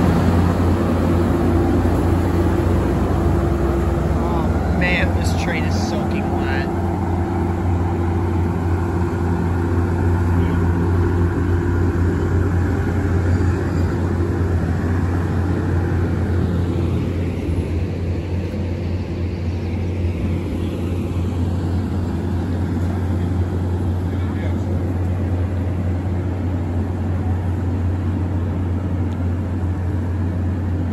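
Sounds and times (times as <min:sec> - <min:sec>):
train coaches rumbling: 0:00.0 - 0:30.9
train engine hum: 0:00.0 - 0:30.9.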